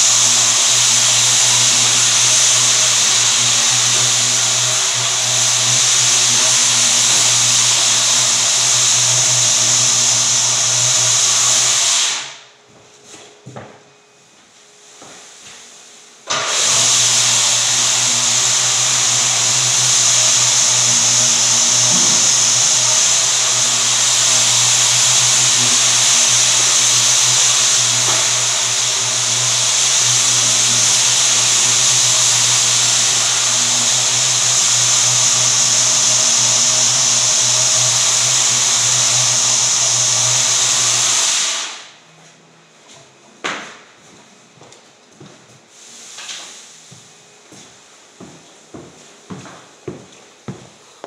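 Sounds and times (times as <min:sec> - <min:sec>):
vacuum cleaner running: 0:00.0 - 0:13.6, 0:14.9 - 0:42.0, 0:44.6 - 0:51.0.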